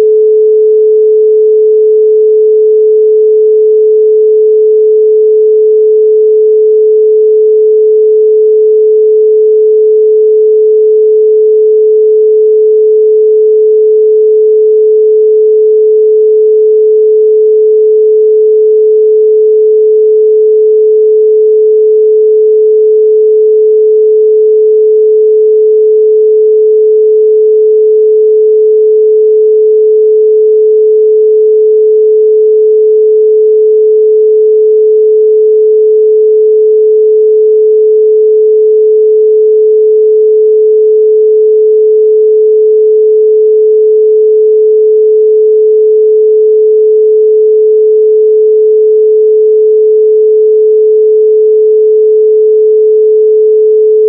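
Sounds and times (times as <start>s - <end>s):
steady sine tone: 0.0s - 54.0s.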